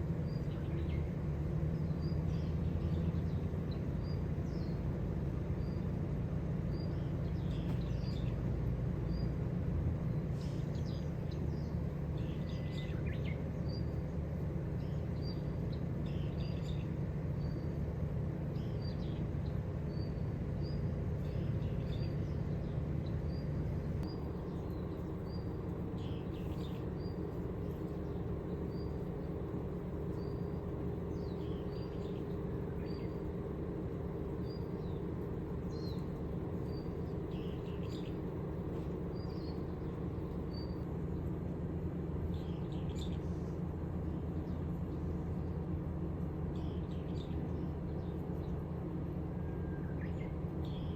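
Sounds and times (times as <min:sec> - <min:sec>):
steady low rumble: 0:00.0 - 0:50.9
small birds chirping: 0:00.1 - 0:41.4, 0:46.4 - 0:48.6.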